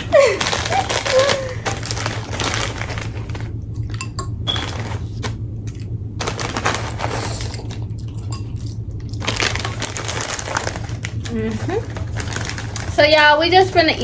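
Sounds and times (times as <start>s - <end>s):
food rustling: 0.0s - 14.0s
low hum: 0.0s - 14.0s.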